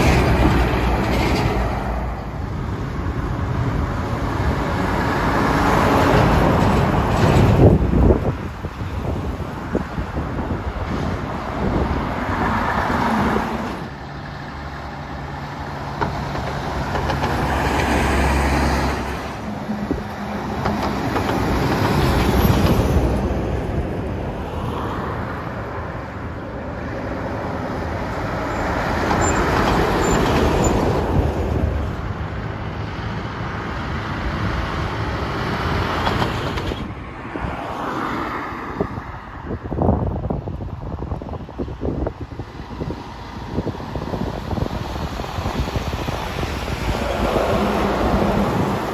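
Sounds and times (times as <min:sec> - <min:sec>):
heavy trucks driving past: 0:00.0 - 0:48.9.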